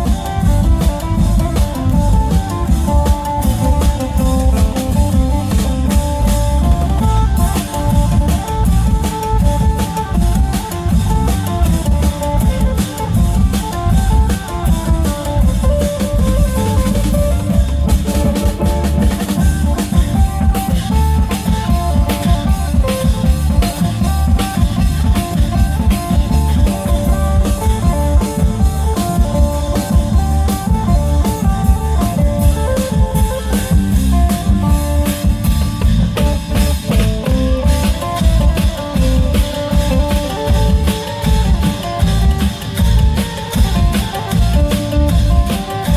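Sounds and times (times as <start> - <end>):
long drums and percussion pounding: 0.0 - 45.9
plucked lute melody: 0.0 - 45.9.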